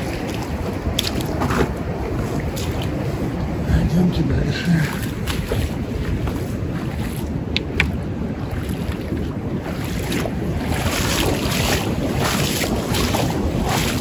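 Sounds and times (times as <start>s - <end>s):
footsteps crunching on beach: 0.0s - 3.6s, 4.6s - 14.0s
waves on the shore: 0.0s - 14.0s
wind buffeting microphone: 0.0s - 14.0s.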